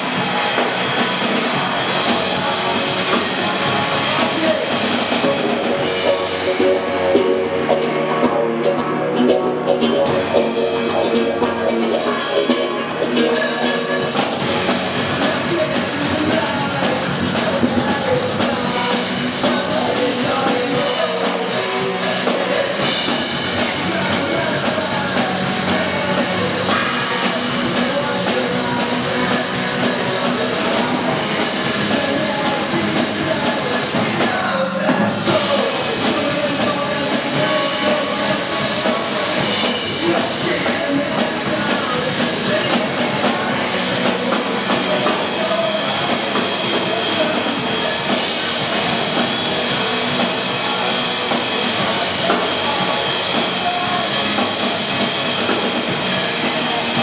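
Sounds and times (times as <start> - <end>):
drums and cymbals: 0.0 - 8.4, 9.2 - 57.0
distorted electric guitars: 0.0 - 57.0
person singing: 0.0 - 57.0.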